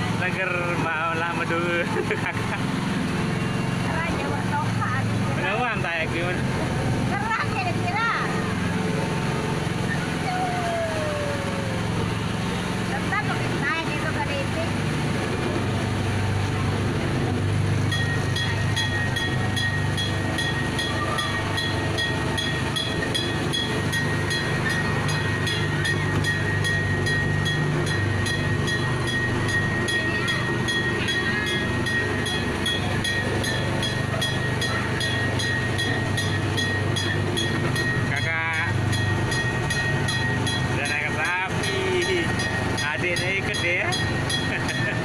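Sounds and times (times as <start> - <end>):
train motor drone: 0.0 - 45.0.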